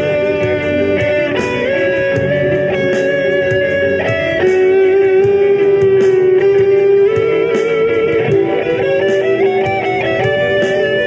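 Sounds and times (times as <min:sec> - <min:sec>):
music with long held notes: 0:00.0 - 0:11.0.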